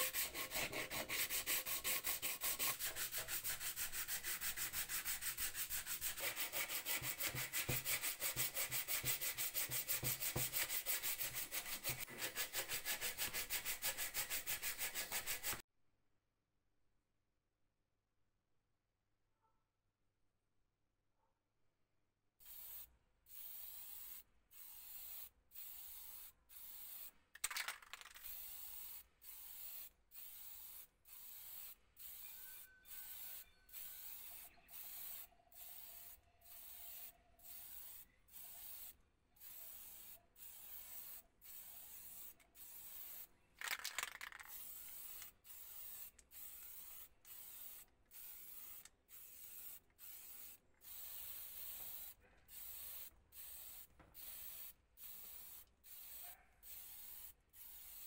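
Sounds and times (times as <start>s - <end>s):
aerosol spray can hissing: 0.0s - 15.6s, 22.5s - 58.0s.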